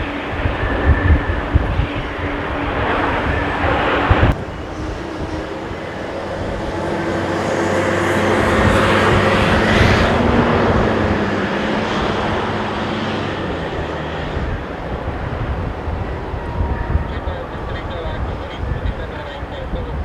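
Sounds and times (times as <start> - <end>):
jet engines passing overhead: 0.0 - 20.0
wind rumble on microphone: 0.0 - 20.0.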